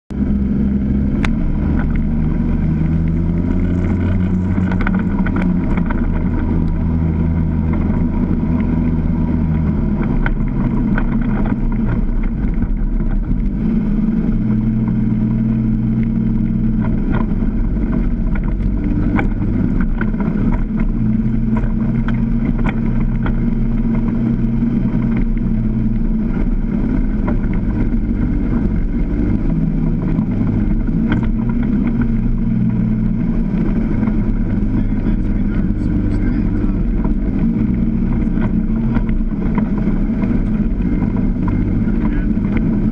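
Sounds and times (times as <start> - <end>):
utility vehicle engine running: 0.1 - 42.9.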